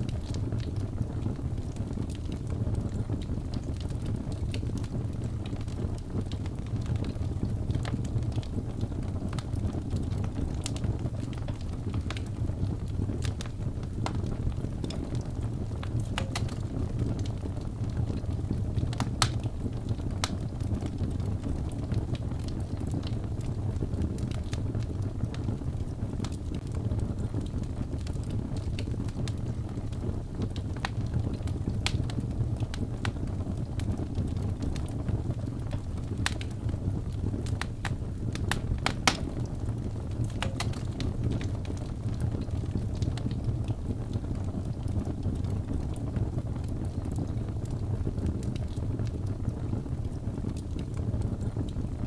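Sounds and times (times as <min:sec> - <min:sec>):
logs crackling and popping: 0:00.0 - 0:52.0
low rumble of flames: 0:00.0 - 0:52.0.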